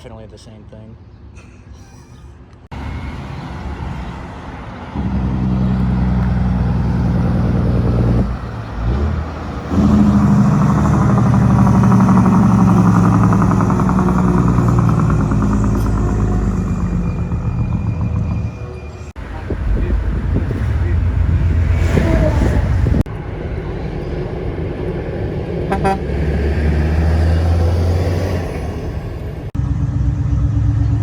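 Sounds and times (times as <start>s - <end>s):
truck engine under load: 2.7s - 31.0s.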